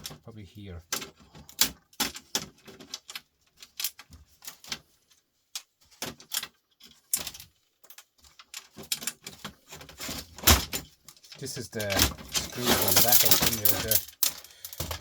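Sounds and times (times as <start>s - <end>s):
tools and small parts rattling: 0.0s - 15.0s.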